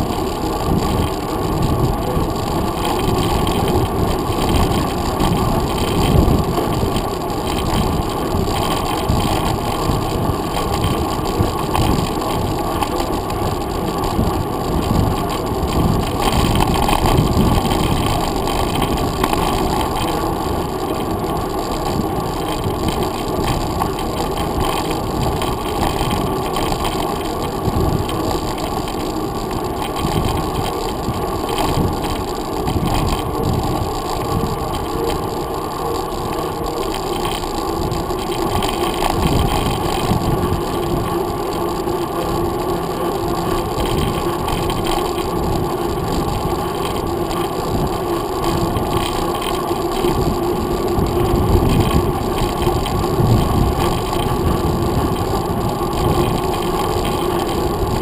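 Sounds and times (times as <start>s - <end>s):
bike tyres rumbling on pavement: 0.0s - 58.0s
faint steady hum: 0.0s - 58.0s.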